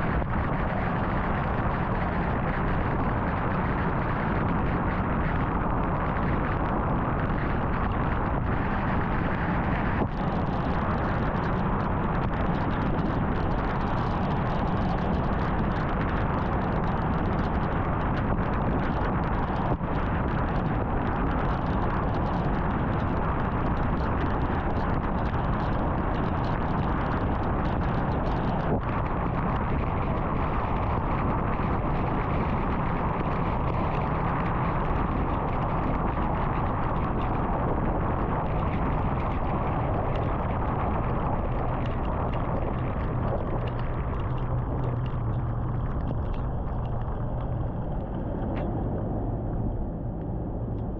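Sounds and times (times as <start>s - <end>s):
car road noise at highway speed: 0.0s - 50.9s.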